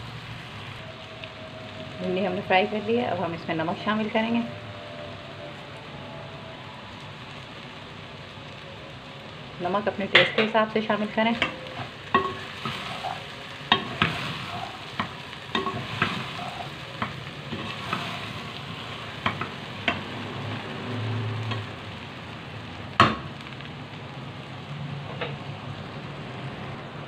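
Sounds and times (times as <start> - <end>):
okra sizzling in a saucepan: 0.0 - 27.0.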